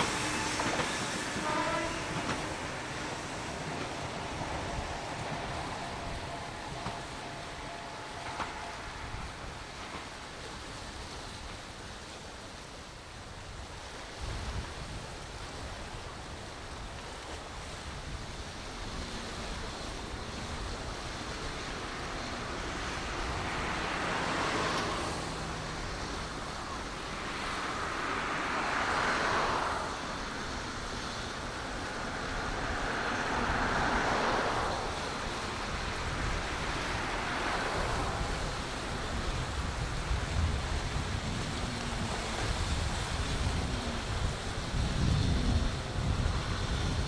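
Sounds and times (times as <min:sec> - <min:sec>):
cars passing: 0:00.0 - 0:11.4, 0:18.9 - 0:47.0
sea waves washing: 0:00.0 - 0:47.0.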